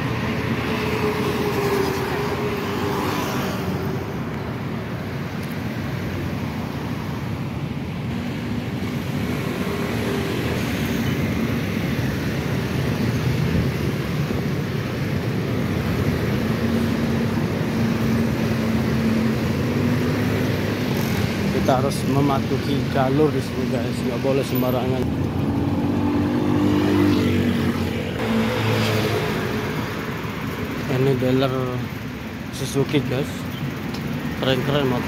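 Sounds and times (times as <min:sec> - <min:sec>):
scooters and cars passing: 0:00.0 - 0:35.0.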